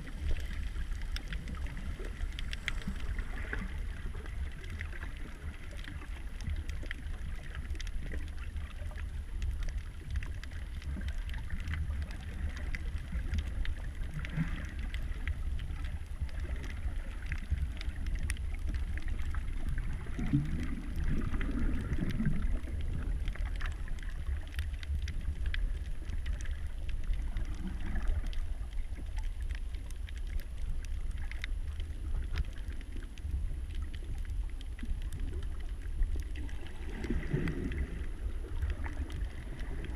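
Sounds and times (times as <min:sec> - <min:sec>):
faint clicks and crackles: 0:00.0 - 0:39.9
muffled underwater rumble: 0:00.0 - 0:39.9.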